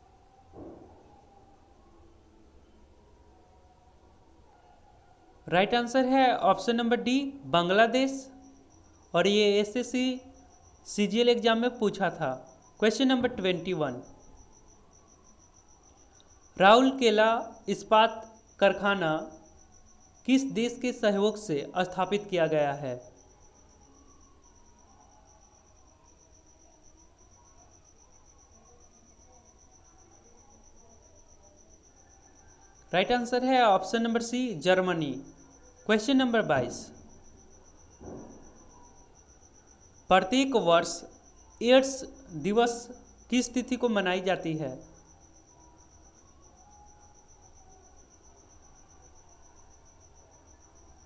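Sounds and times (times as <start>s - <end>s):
cricket chirping: 0.0s - 51.0s.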